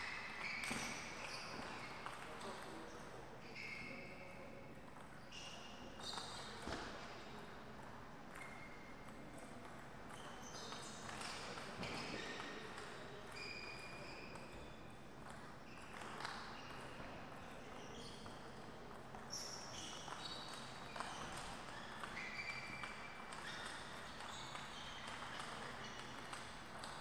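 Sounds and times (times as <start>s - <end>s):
shoe soles squeaking on floor: 0.0s - 7.4s, 8.3s - 9.5s, 10.1s - 27.0s.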